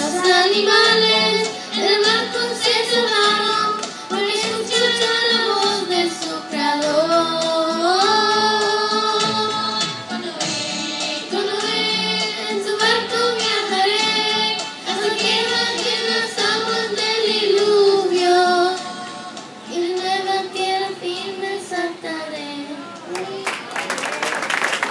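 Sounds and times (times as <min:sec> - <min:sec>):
girls singing into microphones: 0:00.0 - 0:23.6.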